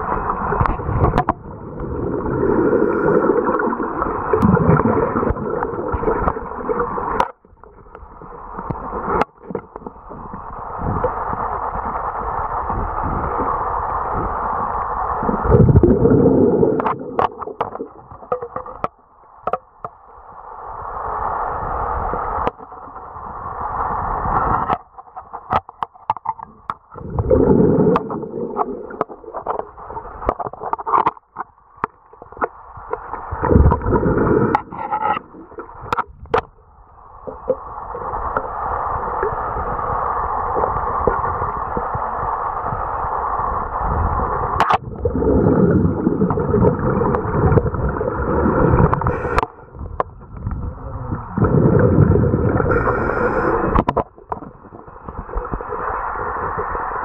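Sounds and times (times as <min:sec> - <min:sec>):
underwater rushing and gurgling: 0:00.0 - 0:57.0.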